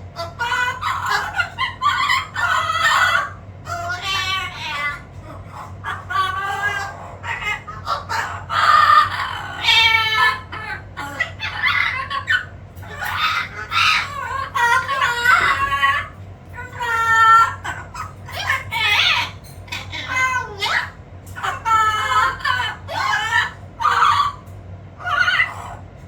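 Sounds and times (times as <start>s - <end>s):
parrot squawking: 0.0s - 26.0s.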